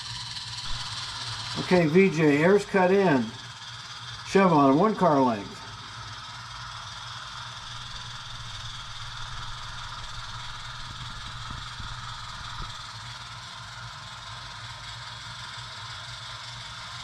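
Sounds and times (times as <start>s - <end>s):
model train engine drone: 0.0s - 17.0s
model train rail noise: 0.0s - 17.0s.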